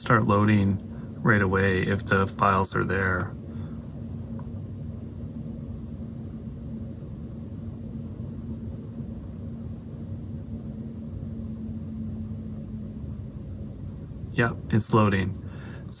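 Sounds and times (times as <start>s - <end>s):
electronic equipment humming: 0.0s - 16.0s.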